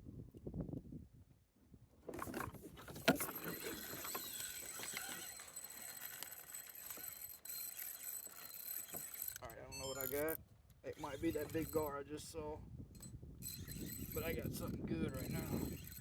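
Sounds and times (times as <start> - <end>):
fishing reel cranking: 2.9 - 16.0.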